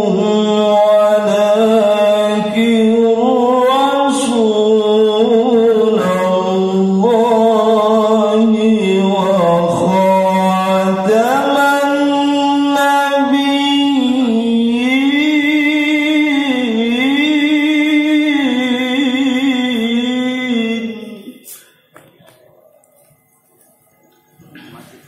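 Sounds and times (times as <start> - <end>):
man reciting melodically: 0.0 - 21.9.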